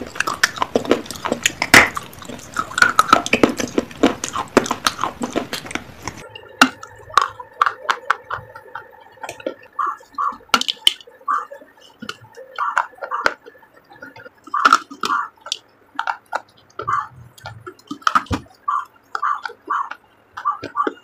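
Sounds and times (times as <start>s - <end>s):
clay being chewed crunching: 0.0s - 21.0s.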